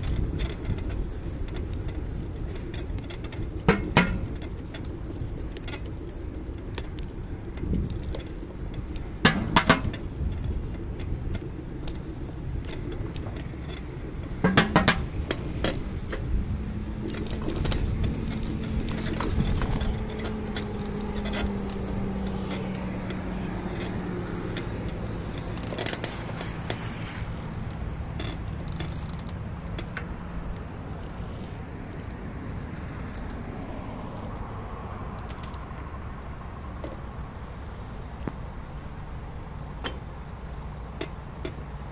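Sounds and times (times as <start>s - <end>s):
handlebar rattling: 0.0s - 41.9s
rumble of wind and pavement: 0.0s - 41.9s.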